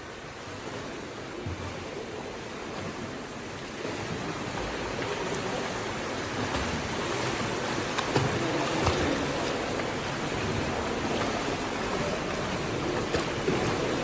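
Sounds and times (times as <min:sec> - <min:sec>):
swimmer splashing in pool: 0:00.0 - 0:14.0.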